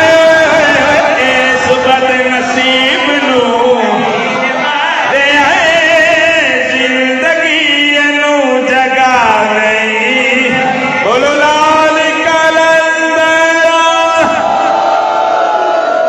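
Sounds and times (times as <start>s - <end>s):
person chanting into a microphone: 0.0s - 14.6s.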